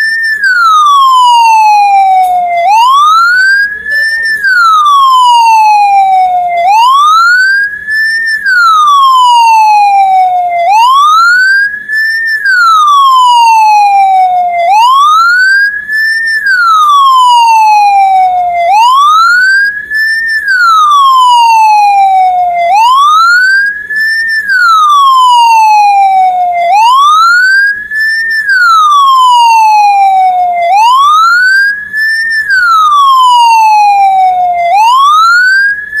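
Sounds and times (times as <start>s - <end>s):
ambulance siren wailing: 0.0s - 36.0s.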